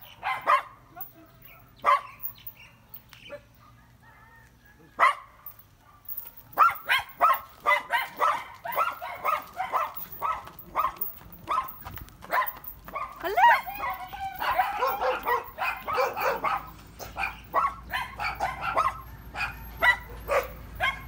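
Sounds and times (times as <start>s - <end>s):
dog barking: 0.1s - 2.2s, 5.0s - 21.0s.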